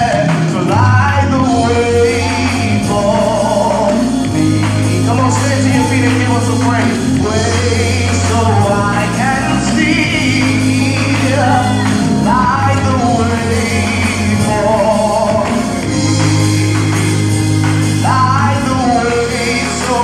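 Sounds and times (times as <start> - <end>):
backing singers: 0.0 - 20.0
instrumental accompaniment: 0.0 - 20.0
man singing gospel: 0.0 - 20.0.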